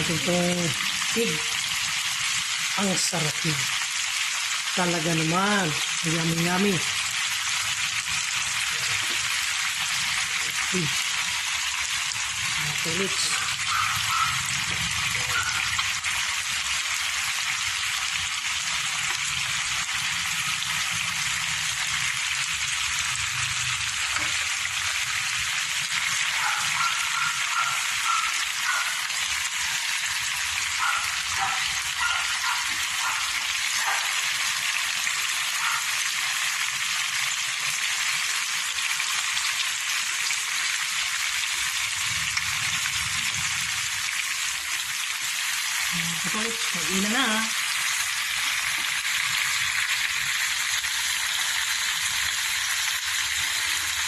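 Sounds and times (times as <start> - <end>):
meat sizzling in frying pan: 0.0 - 54.0.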